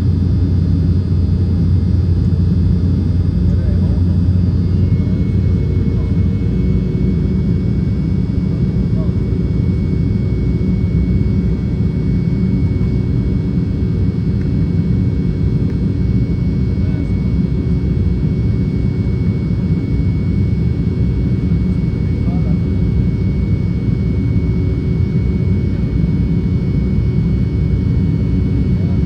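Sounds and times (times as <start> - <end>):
jet engine rumble and airflow: 0.0 - 29.0
thin steady whine: 0.0 - 29.0.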